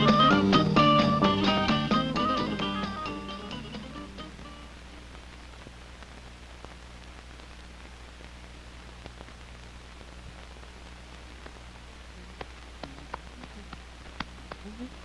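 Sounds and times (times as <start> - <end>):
film crackles and pops: 0.0 - 15.0
low hum and hiss: 0.0 - 15.0.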